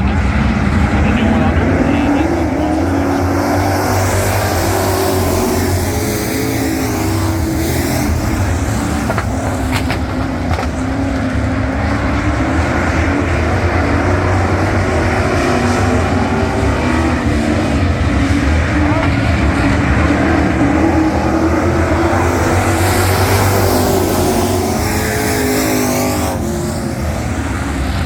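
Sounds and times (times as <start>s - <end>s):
race truck engines running: 0.0s - 28.0s.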